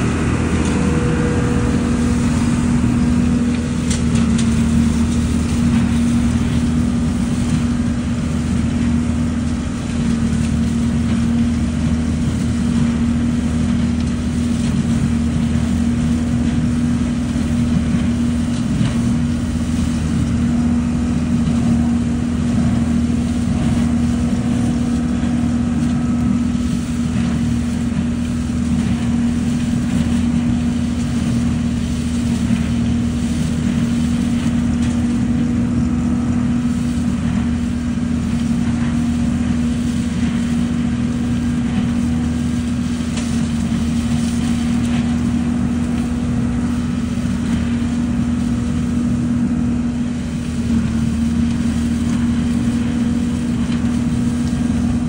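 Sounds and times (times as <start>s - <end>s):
leaf vacuum humming: 0.0s - 55.0s.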